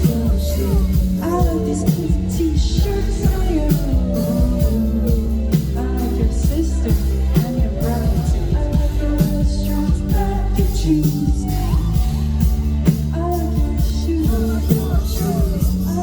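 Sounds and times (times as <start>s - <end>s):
electronic pop music over a pa: 0.0s - 16.0s
person singing: 0.0s - 16.0s.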